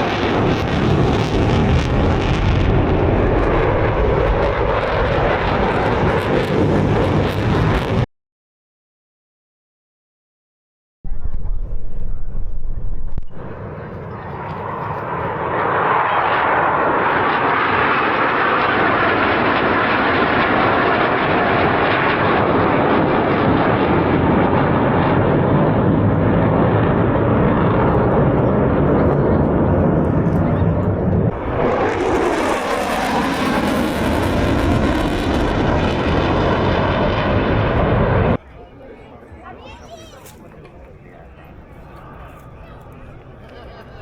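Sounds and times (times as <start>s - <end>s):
military jet engine roar: 0.0s - 8.1s, 11.1s - 44.0s.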